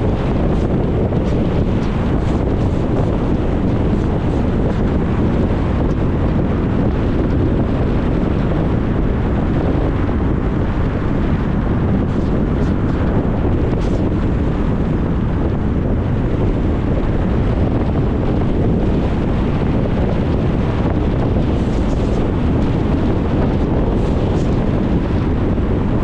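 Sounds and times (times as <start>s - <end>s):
car road and wind noise: 0.0s - 26.0s.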